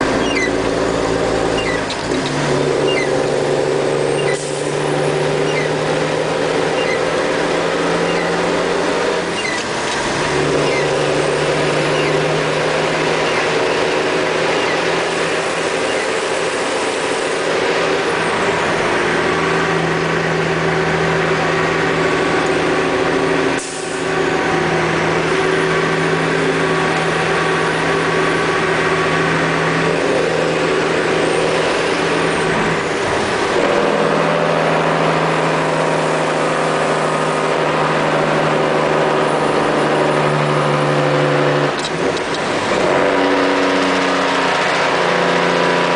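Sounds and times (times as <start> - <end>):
truck engine brake drone: 0.0 - 45.8.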